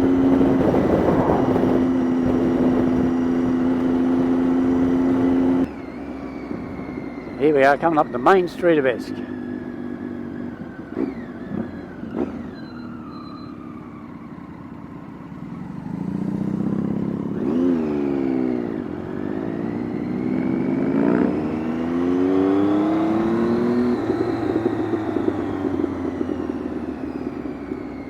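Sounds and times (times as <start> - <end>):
motorcycle engine: 0.0 - 28.0.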